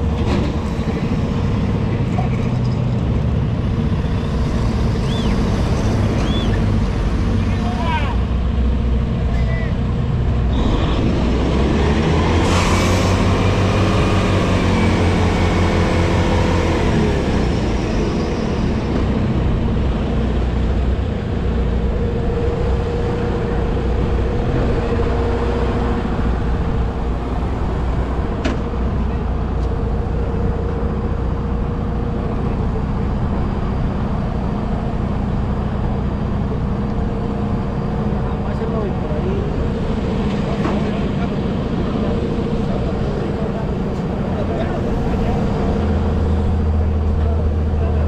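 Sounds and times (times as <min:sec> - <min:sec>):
diesel truck engine pulling away: 0:00.0 - 0:48.0
traffic drone: 0:00.0 - 0:48.0.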